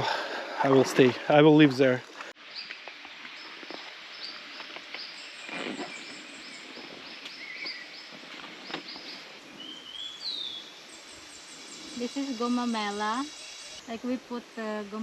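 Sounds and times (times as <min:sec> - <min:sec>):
bird chirping: 0:02.4 - 0:15.0.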